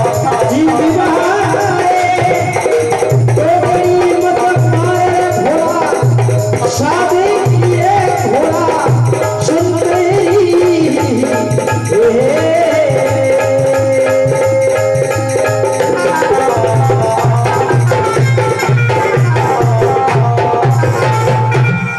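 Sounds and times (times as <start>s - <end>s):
man singing devotional song: 0.0s - 21.9s.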